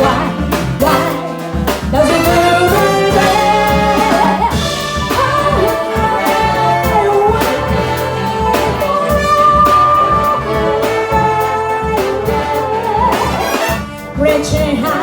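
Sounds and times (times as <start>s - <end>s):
jazz big band playing: 0.0s - 15.0s.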